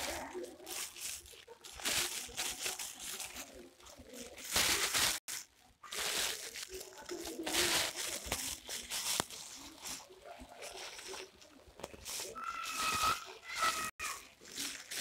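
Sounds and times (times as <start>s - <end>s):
plastic sack rustling and crinkling: 0.0s - 15.0s.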